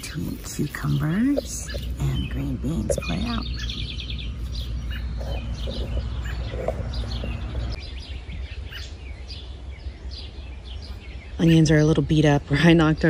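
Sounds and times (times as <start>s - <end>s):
birds chirping and singing: 0.0s - 13.0s
low steady rumble: 0.0s - 13.0s.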